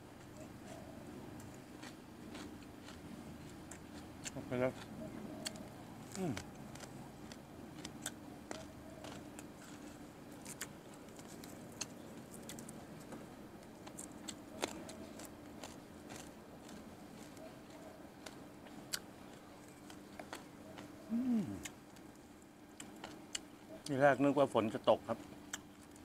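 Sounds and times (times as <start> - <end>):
man chewing food: 0.0 - 23.9, 25.2 - 26.0
faint steady hum: 0.0 - 26.0.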